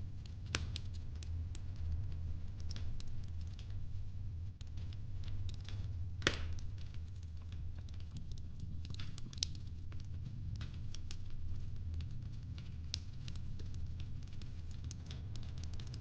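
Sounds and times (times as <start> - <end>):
fireplace crackling and popping: 0.0 - 16.0
low fire rumble: 0.0 - 16.0.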